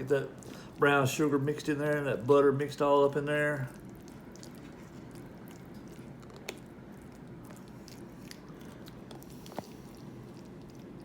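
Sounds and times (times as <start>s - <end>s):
steady low hum: 0.0s - 11.0s
utensil squishing and scraping food: 0.0s - 11.0s.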